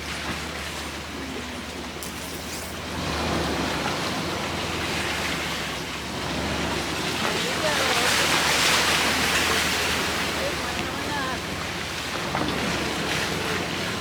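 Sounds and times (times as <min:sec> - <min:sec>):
engine and tyre noise: 0:00.0 - 0:14.0.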